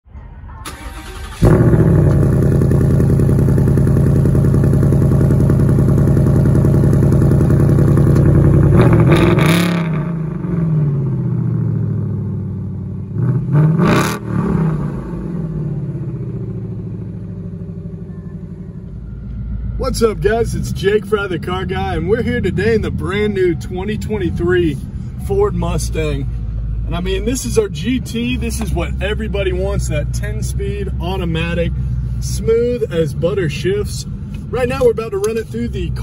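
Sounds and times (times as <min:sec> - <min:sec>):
car engine starting and idling: 0:00.1 - 0:36.0
engine throttle blips: 0:00.5 - 0:36.0.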